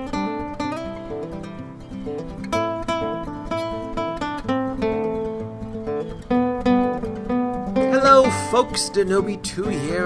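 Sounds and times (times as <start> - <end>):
acoustic guitar plucked melody: 0.0 - 10.0.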